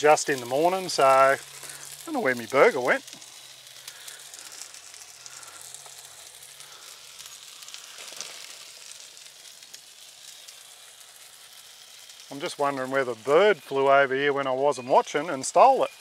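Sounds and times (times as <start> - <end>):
food sizzling on hot plate: 0.0 - 16.0.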